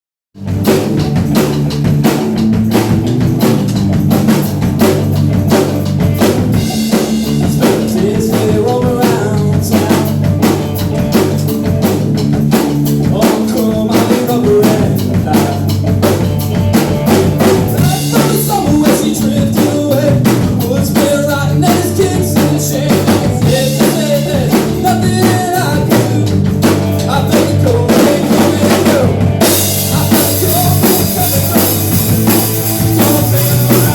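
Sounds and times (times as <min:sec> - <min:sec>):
drum kit beat: 0:00.4 - 0:33.9
live rock band playing: 0:00.4 - 0:33.9.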